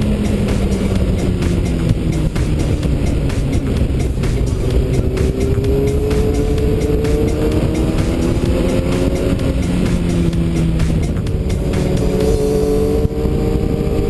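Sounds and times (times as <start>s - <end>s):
low wind rumble on microphone: 0.0s - 14.0s
motorcycle engine running: 0.0s - 14.0s.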